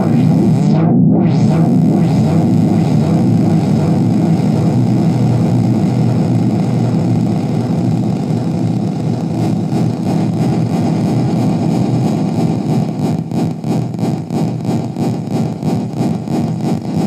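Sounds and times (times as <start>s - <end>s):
synthesizer drone: 0.0s - 17.0s.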